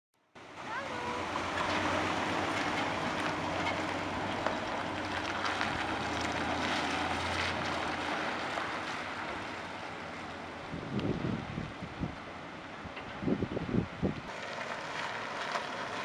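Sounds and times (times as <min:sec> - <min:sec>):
car engine pulling away: 0:00.4 - 0:13.4, 0:14.2 - 0:16.0.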